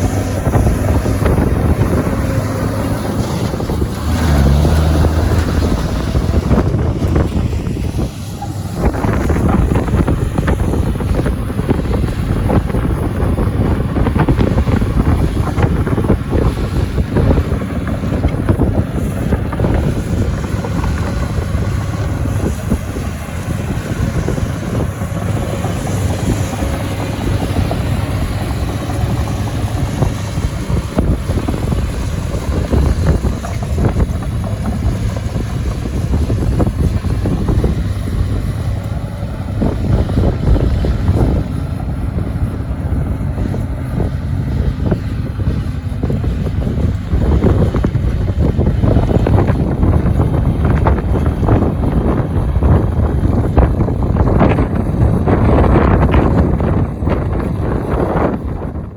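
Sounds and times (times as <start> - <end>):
excavator diesel engine running: 0.0 - 58.9
wind buffeting microphone: 0.0 - 58.9.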